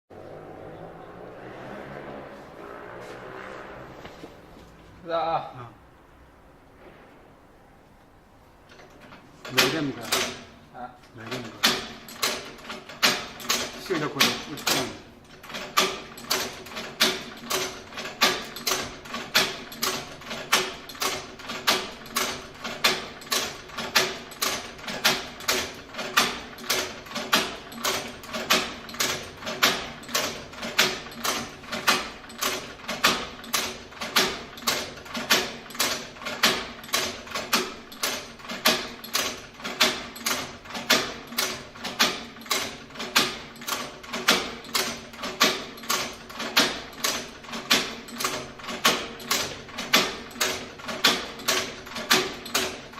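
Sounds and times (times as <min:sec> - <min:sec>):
sewing machine clacking: 0:08.7 - 0:10.6, 0:11.2 - 0:52.9.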